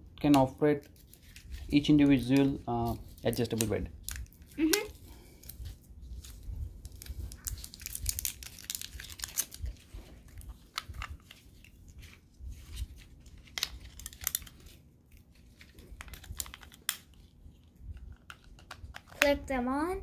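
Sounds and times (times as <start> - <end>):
packaging crinkling and tearing: 0.8 - 19.3.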